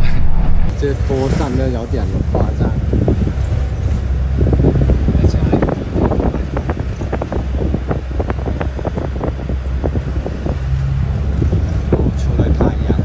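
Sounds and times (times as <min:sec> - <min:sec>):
car engine and road rumble: 0:00.0 - 0:13.0
wind buffeting microphone: 0:00.0 - 0:13.0.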